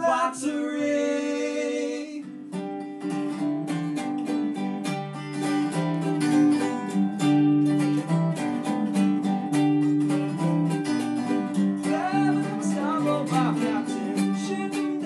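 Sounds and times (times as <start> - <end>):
strummed acoustic string instrument: 1.7 - 15.0.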